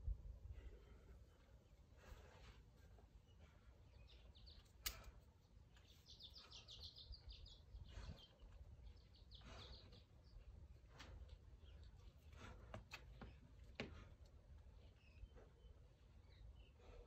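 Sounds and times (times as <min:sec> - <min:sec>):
small bird singing faintly: 0:03.0 - 0:17.0.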